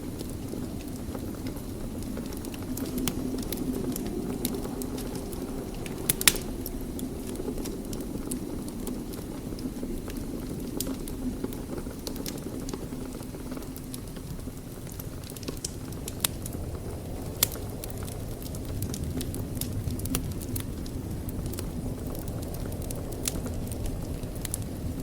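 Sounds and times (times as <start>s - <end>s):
fire pops: 0.0s - 25.0s
wood fire crackling: 0.0s - 25.0s.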